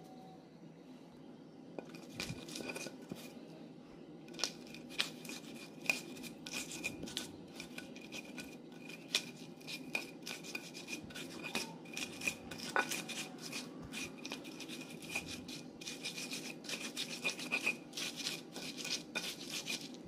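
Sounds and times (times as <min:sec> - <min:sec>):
stone pestle scraping in mortar: 0:01.8 - 0:03.4, 0:04.4 - 0:20.0.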